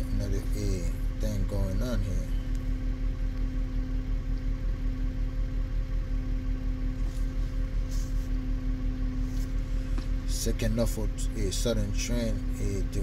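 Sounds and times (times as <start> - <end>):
constant higher tone: 0.0 - 13.0
motor humming with throb: 0.0 - 13.0.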